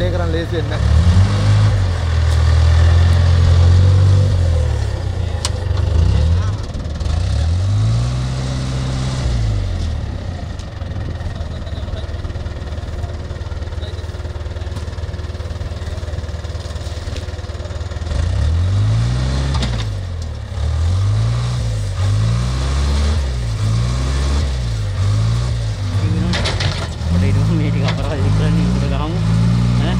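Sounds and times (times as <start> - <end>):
diesel engine revving: 0.0 - 29.9.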